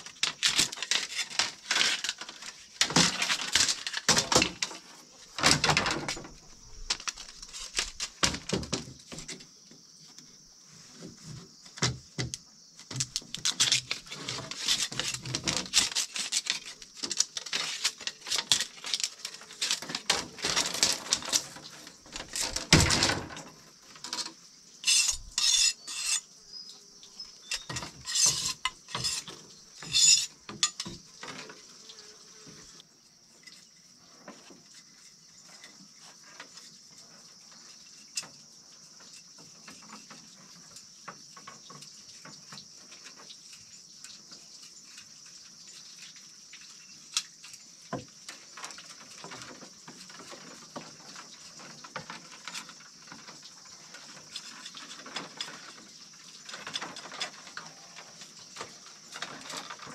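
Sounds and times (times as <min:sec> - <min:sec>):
steady high-pitched hiss: 0:00.0 - 0:59.9.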